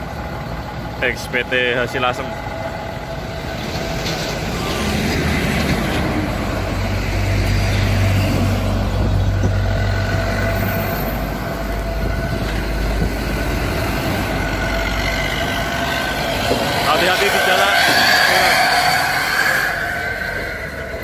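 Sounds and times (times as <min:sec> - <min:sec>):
diesel truck engine pulling away: 0:00.0 - 0:21.0.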